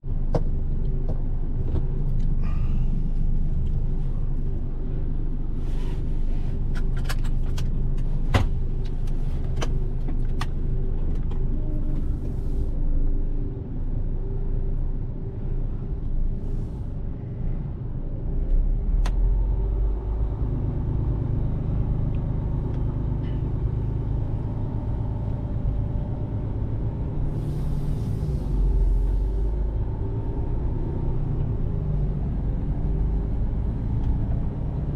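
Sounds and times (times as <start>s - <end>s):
truck diesel engine rumbling: 0.0s - 34.9s.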